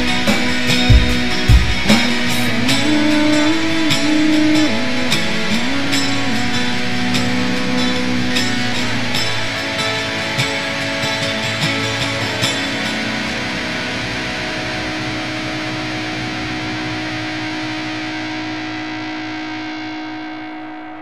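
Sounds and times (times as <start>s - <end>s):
distorted electric guitar: 0.0s - 21.0s.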